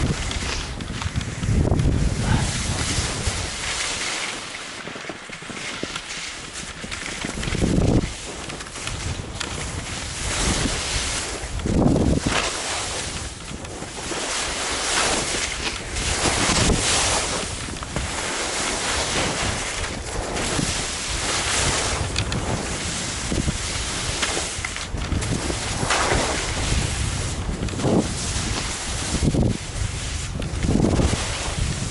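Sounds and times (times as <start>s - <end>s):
skis scraping over snow: 0.0s - 31.9s
wind rushing over microphone: 0.0s - 31.9s.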